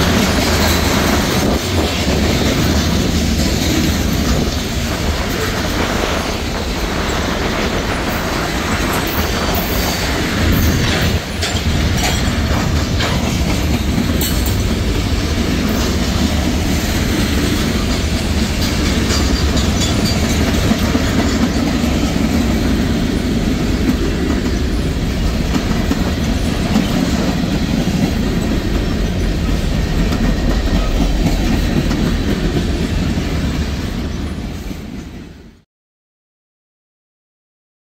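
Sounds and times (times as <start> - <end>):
wheels clacking over rail joints: 0.0 - 34.3
freight train rumbling past: 0.0 - 35.6.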